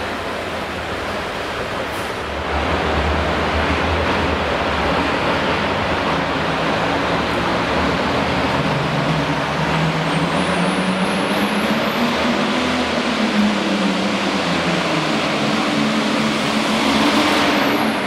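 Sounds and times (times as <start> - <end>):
rushing arena noise: 0.0 - 18.0.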